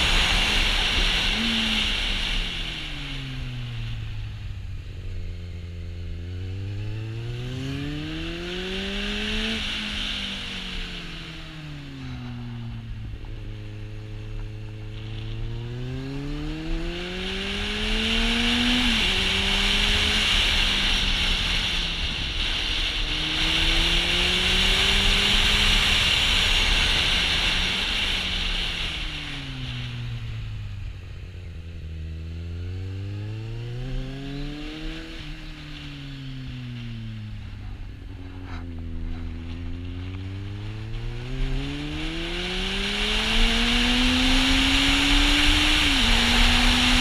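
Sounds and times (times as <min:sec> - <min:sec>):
wind rushing over microphone: 0:00.0 - 0:32.3, 0:33.0 - 0:47.0
motorcycle engine revving: 0:00.0 - 0:47.0.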